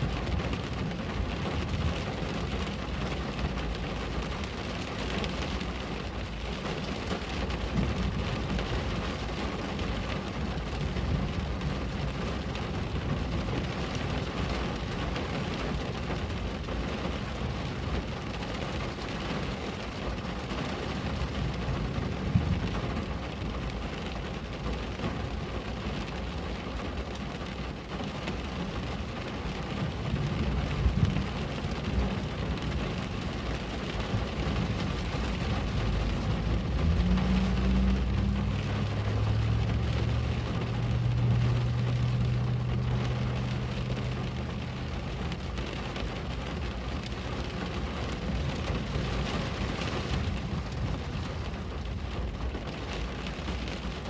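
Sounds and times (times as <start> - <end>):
rain falling on a window: 0.0 - 54.0.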